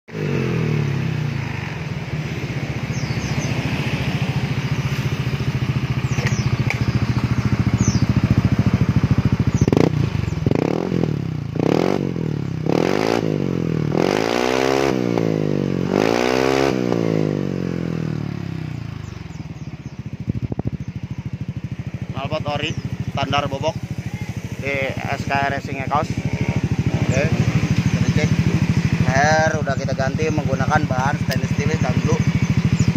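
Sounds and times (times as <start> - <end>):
scooter engine idling and revving: 0.1 - 32.9.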